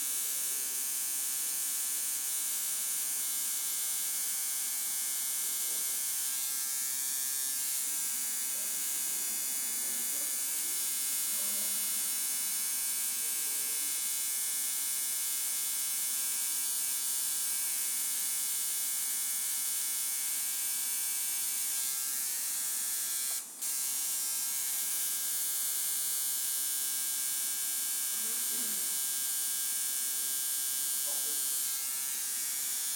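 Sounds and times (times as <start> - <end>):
tattoo machine buzzing: 0.0 - 32.9.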